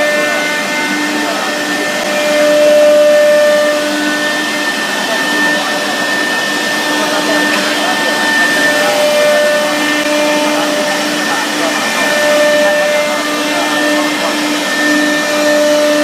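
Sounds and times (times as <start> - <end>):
router spindle whining: 0.0 - 16.0.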